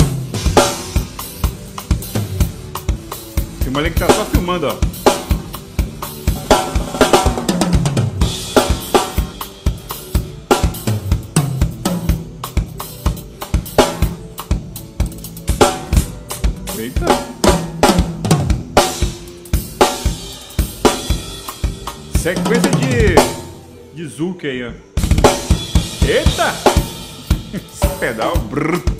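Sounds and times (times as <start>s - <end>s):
tom drum fills: 0.0s - 23.7s, 25.0s - 28.9s
drum kit groove: 0.0s - 23.9s, 24.8s - 28.9s.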